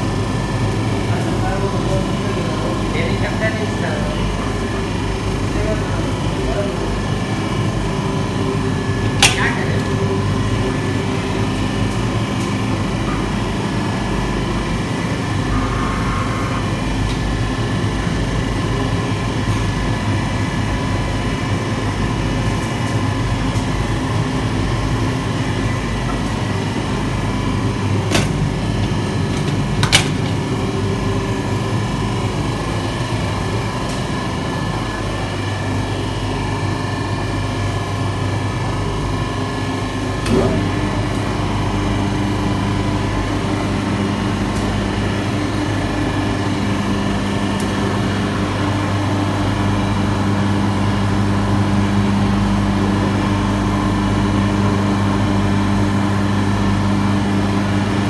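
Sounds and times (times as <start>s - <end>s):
oven burner humming: 0.0s - 58.0s.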